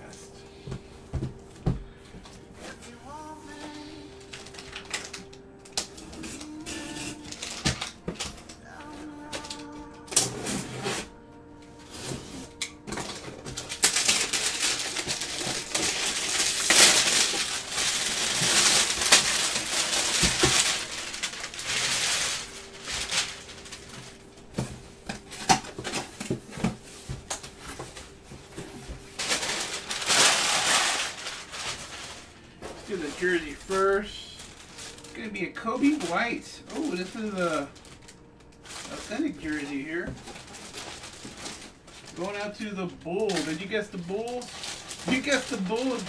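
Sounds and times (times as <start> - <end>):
faint background music: 0.0 - 46.0
plastic wrap crinkling and tearing: 0.1 - 46.0.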